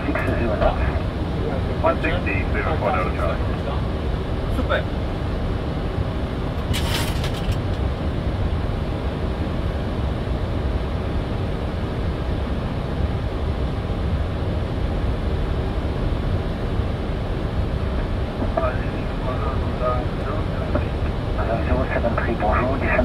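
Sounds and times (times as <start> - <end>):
airplane cockpit rumble: 0.0 - 23.0.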